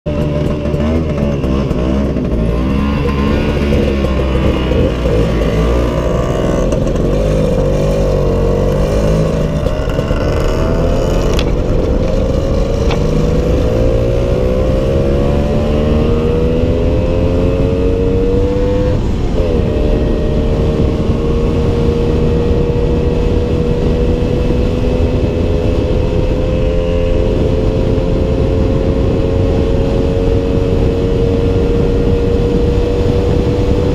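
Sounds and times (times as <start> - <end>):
motor scooter engine accelerating: 0.1 - 33.9
wind rumble on microphone: 0.1 - 33.9.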